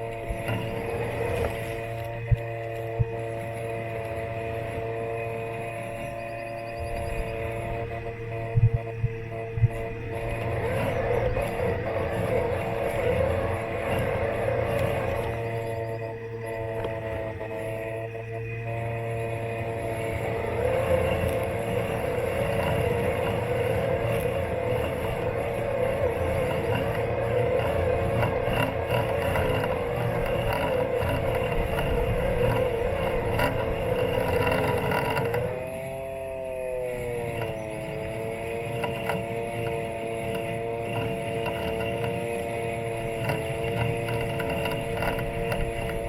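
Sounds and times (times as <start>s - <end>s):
lawn mower motors whining: 0.0s - 46.0s.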